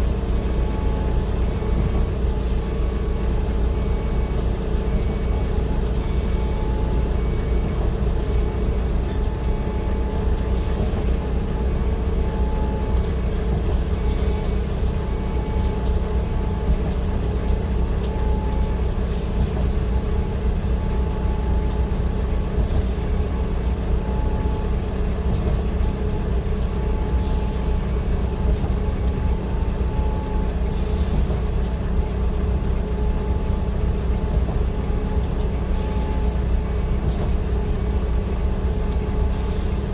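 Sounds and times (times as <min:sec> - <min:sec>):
large vehicle rumbling: 0:00.0 - 0:39.9.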